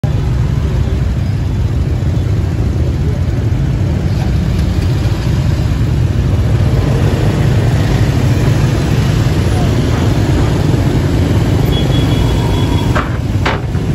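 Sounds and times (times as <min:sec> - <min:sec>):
motor scooters idling: 0:00.1 - 0:13.9.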